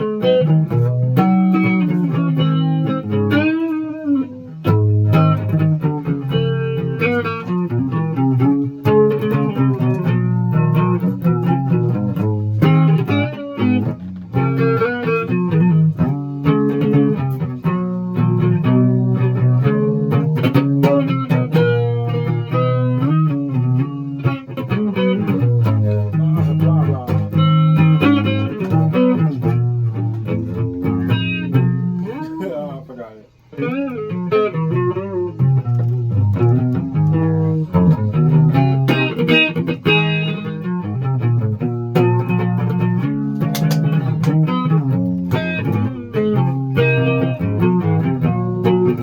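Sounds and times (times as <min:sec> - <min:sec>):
guitar plucked notes: 0:00.0 - 0:49.0.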